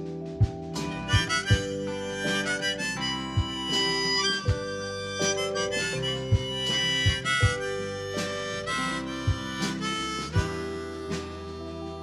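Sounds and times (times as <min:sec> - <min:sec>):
drum strokes: 0:00.0 - 0:12.0
harmonica melody: 0:00.0 - 0:12.0
live band playing: 0:00.0 - 0:12.0.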